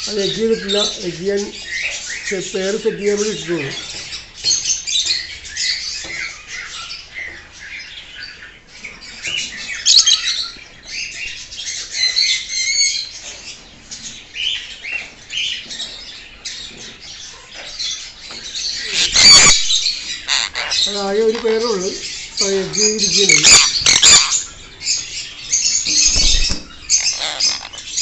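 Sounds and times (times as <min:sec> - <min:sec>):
lovebirds chirping and squawking: 0:00.0 - 0:28.0.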